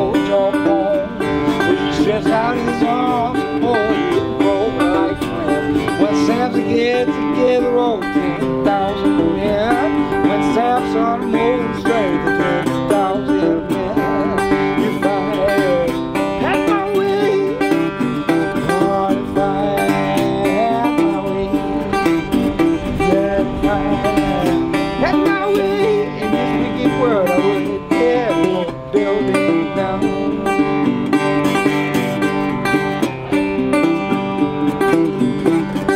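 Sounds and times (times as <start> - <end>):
resonator guitar playing blues: 0.0 - 35.9.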